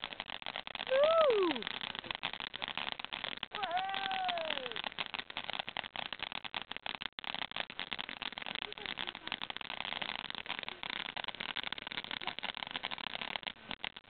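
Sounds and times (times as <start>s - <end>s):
firework crackling: 0.0s - 14.0s.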